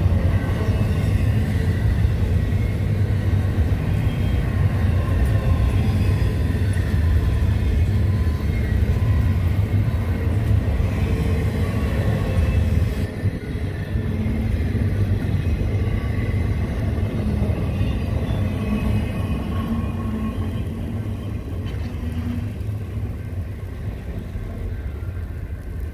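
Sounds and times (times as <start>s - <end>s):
train cars rolling on rails: 0.0s - 25.9s.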